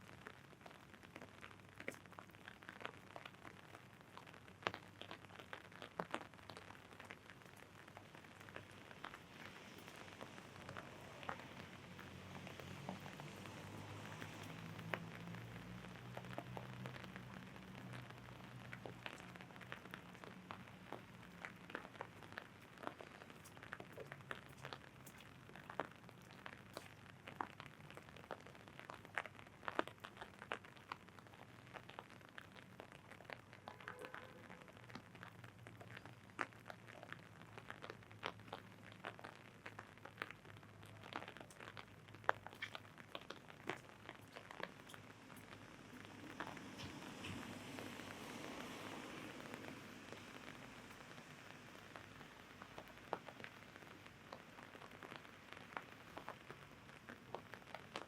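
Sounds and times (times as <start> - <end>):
rain tapping on an umbrella: 0.0 - 58.0.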